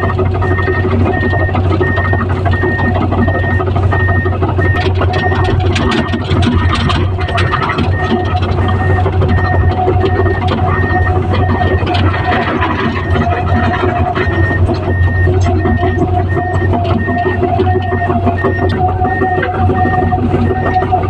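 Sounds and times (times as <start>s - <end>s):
diesel engine running: 0.0s - 21.0s
rock and earth knocking: 0.0s - 21.0s
travel alarm beeping: 0.0s - 21.0s.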